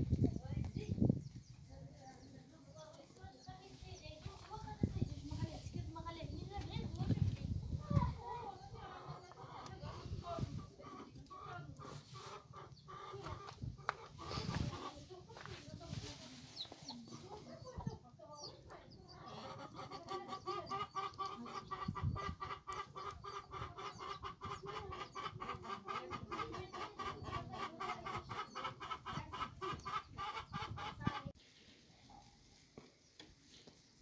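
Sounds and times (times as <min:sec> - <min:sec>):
chickens clucking: 0:00.0 - 0:32.4.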